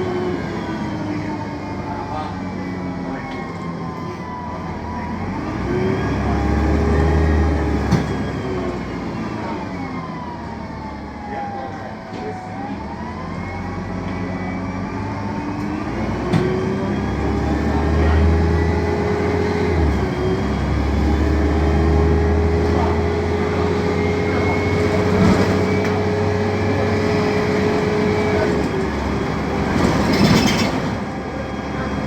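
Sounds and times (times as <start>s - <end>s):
bus engine rumbling: 0.0s - 32.0s.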